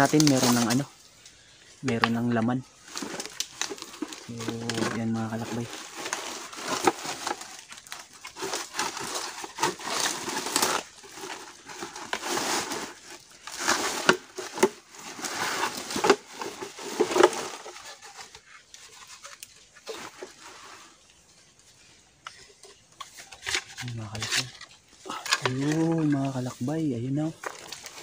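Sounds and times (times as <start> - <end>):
plastic sack crinkling: 0.0 - 0.9, 2.8 - 21.2, 23.0 - 28.0
scratchy scrapes: 2.8 - 21.1, 22.3 - 26.7.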